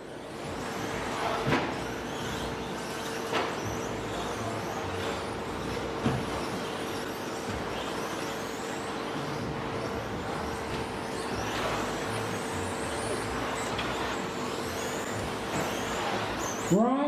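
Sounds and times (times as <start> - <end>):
electric motors whining: 0.0 - 17.0
steady low hum: 0.0 - 17.0.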